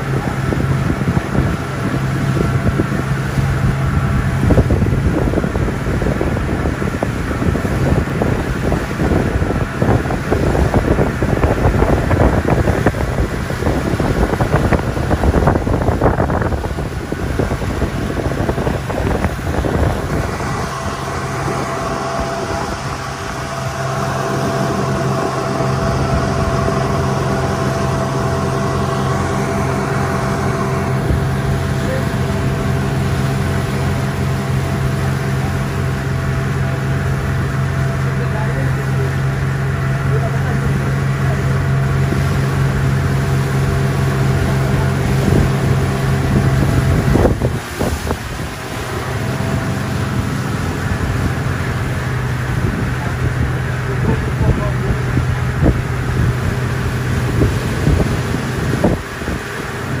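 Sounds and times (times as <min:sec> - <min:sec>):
engine running steadily: 0:00.0 - 1:00.0
wind buffeting microphone: 0:00.0 - 1:00.0.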